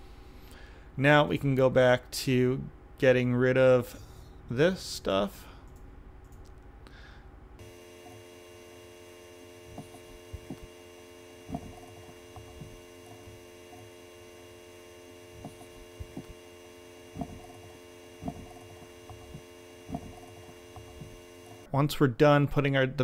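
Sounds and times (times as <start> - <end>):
electrical hum: 0.0 - 21.8.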